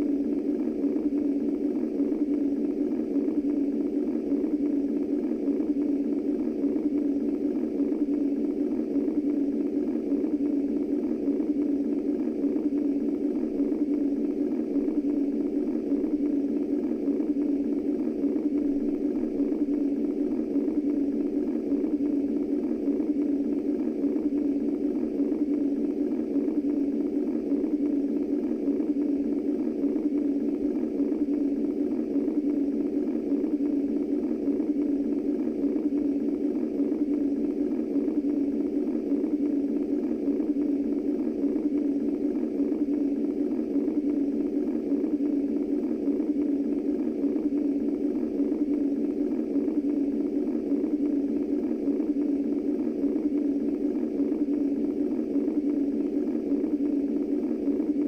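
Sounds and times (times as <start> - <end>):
muffled low whooshing hum: 0.0 - 58.0.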